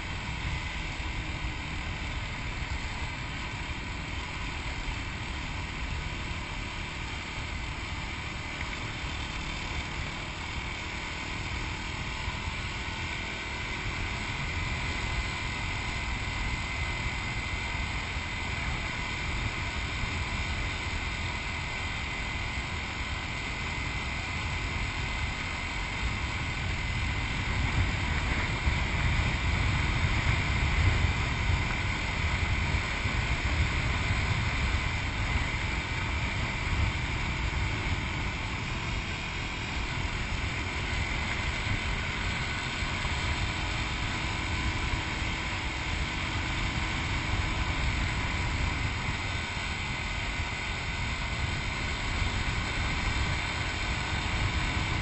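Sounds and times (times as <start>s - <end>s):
motorcycle engine running: 0.0s - 55.0s
wind noise on microphone: 8.4s - 55.0s.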